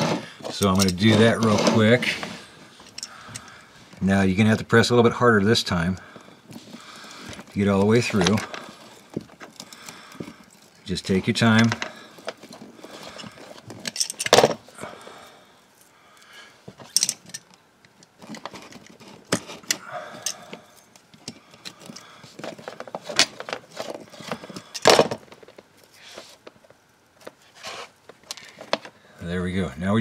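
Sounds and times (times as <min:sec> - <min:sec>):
scrapes and handling noise: 0:00.0 - 0:29.2.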